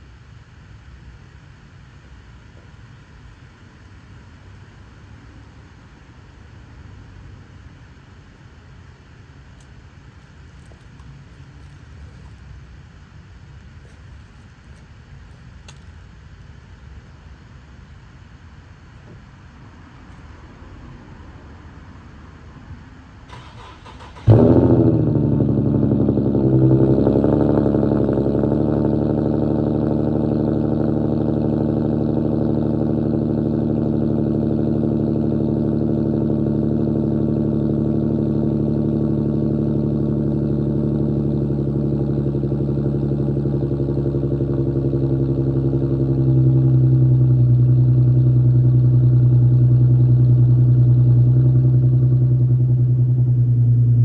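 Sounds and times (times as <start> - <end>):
car engine idling: 2.0 - 20.4, 21.7 - 54.0.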